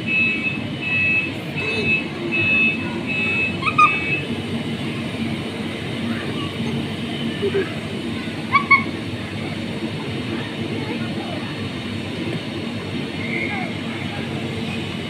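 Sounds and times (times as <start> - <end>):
indoor play area din: 0.1 - 15.0.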